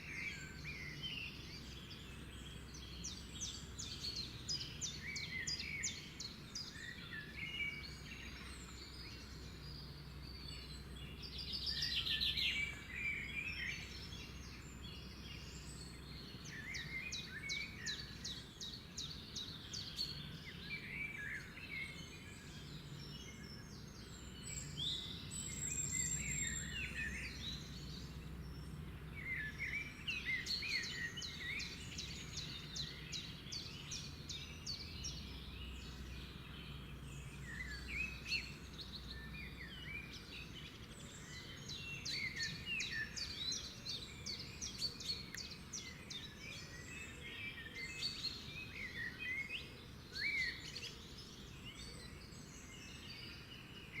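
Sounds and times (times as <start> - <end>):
birds calling and singing: 0.0 - 54.0.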